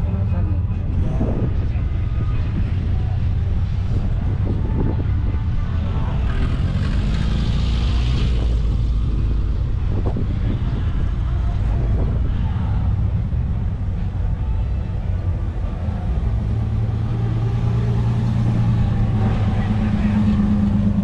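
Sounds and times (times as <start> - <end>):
faint crowd voices: 0.0 - 21.0
car engine running: 0.8 - 21.0.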